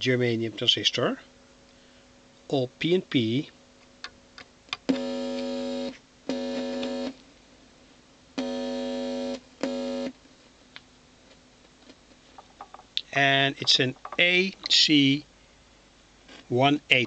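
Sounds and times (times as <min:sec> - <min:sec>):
amplifier loudspeaker buzzing hum: 0:00.0 - 0:17.0.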